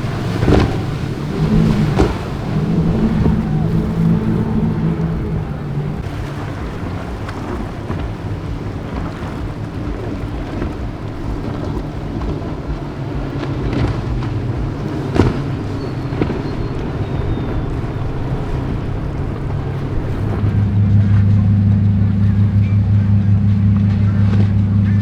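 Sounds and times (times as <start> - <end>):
powerboat engines running: 0.0 - 25.0
wind buffeting microphone: 0.0 - 25.0.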